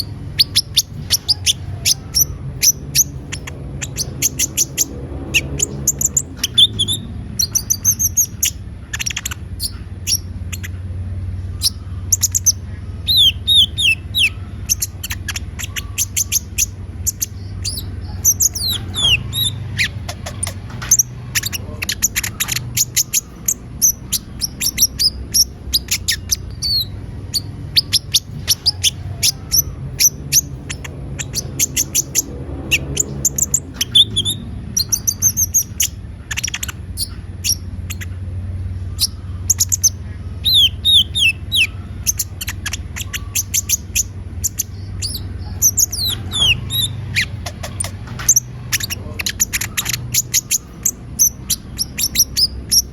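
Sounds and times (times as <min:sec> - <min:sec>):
steady low hum: 0:00.0 - 0:52.9
sunbird chirping and trilling: 0:00.0 - 0:52.9.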